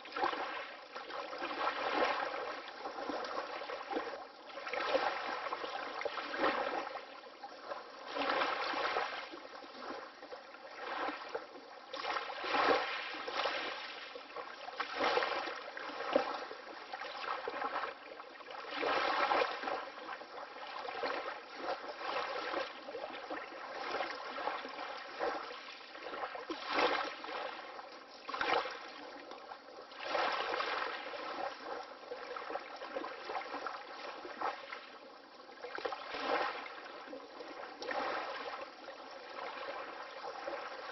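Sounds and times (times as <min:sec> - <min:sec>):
small waves lapping: 0:00.0 - 0:40.9
soft water splashes: 0:00.0 - 0:40.9.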